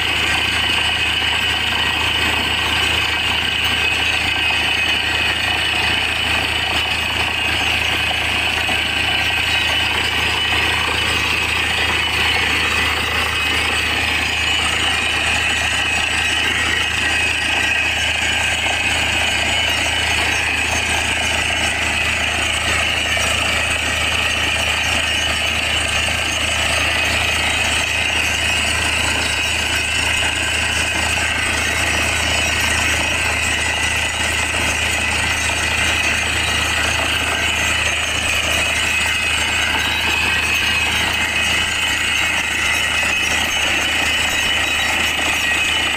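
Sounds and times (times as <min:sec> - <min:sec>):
drilling rig engine and air hammer: 0:00.0 - 0:45.9.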